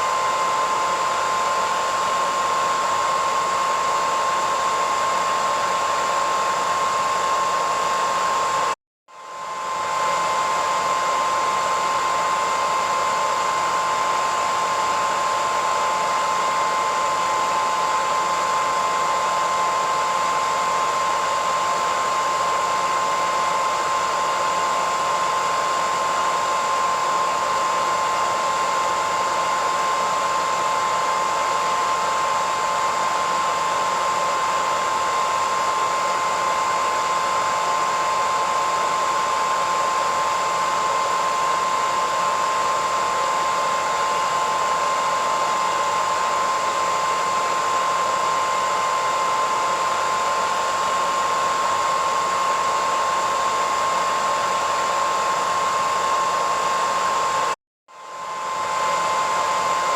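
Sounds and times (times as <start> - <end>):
hairdryer running: 0.0 - 59.9.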